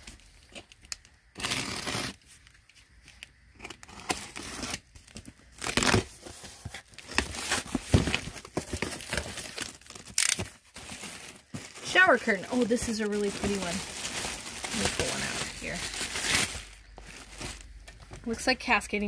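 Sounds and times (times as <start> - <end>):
tape and cardboard ripping: 0.0 - 2.5, 3.6 - 13.8, 14.4 - 17.7
packaging rustling and crinkling: 0.0 - 18.5.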